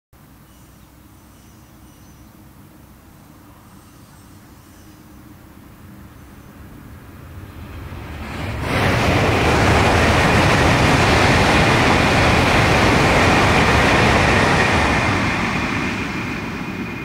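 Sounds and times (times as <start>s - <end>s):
high-speed train rushing past: 3.3s - 17.0s.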